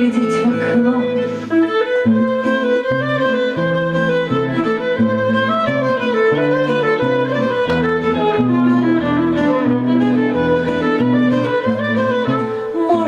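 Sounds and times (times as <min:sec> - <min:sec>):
live band instrumental: 0:00.0 - 0:13.0.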